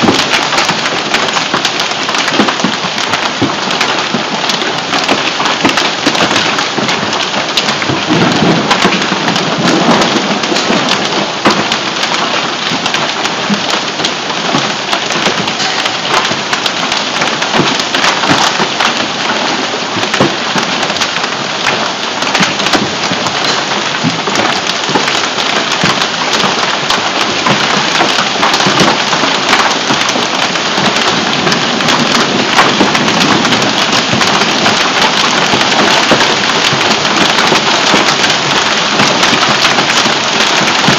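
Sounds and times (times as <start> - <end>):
hailstones ticking: 0.0 - 40.9.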